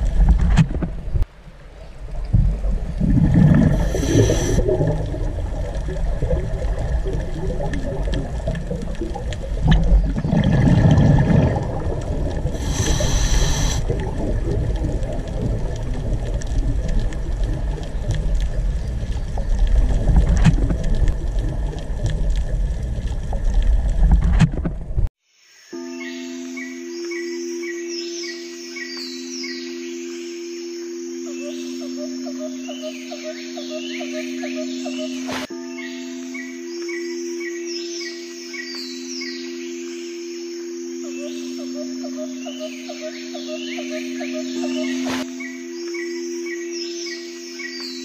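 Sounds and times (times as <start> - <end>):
stream water running over rocks: 0.0 - 25.1, 26.4 - 48.0.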